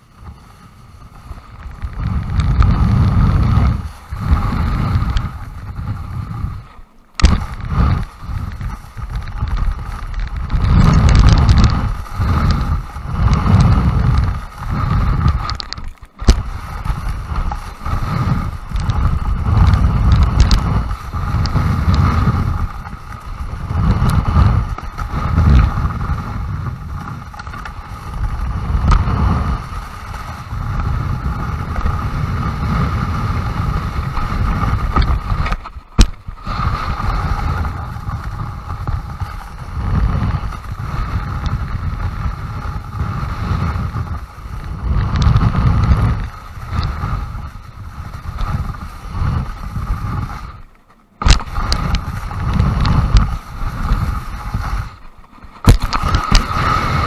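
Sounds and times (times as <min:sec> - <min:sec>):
snowboard scraping over snow: 0:00.0 - 0:57.0
wind buffeting microphone: 0:00.0 - 0:57.0.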